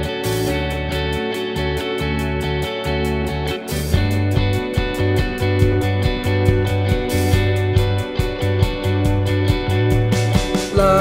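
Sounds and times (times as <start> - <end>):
pop song instrumental: 0.0 - 11.0
pulsing bass beat: 0.0 - 11.0.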